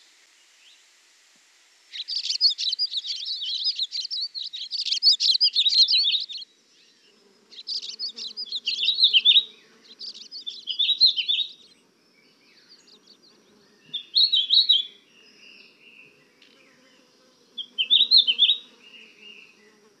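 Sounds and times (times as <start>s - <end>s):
songbirds chirping: 1.9s - 20.0s.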